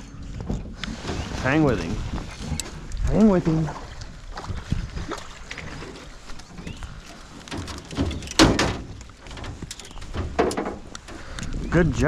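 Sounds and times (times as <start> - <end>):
knocks and rattles in a boat: 0.1 - 12.0.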